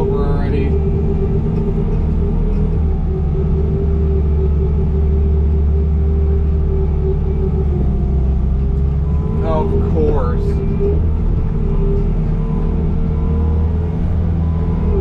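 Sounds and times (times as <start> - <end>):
steady whine: 0.0 - 15.0
track loader diesel engine hum: 0.0 - 15.0.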